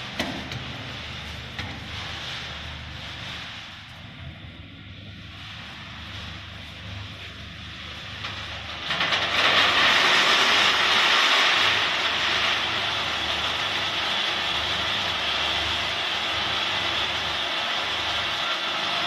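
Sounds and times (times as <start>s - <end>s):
roaster humming: 0.0s - 19.0s.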